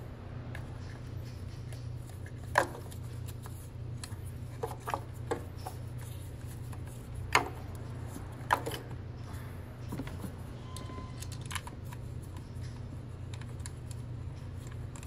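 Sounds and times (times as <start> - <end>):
steady low hum: 0.0 - 15.0
engine parts clicking and tapping: 0.5 - 15.0.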